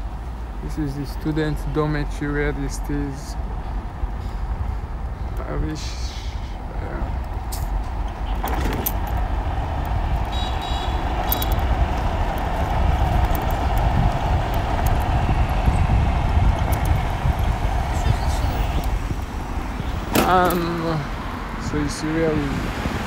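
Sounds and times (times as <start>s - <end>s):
tyres rumbling on road: 0.0s - 23.0s
wind rushing over microphone: 0.0s - 23.0s.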